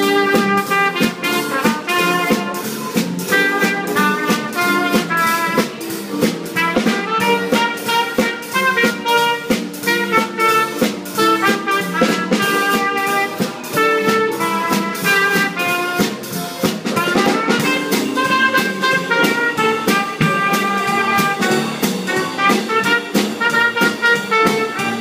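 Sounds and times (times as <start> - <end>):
bass: 0.0 - 25.0
drum kit swing beat: 0.0 - 25.0
piano: 0.0 - 25.0
trumpet: 0.0 - 25.0.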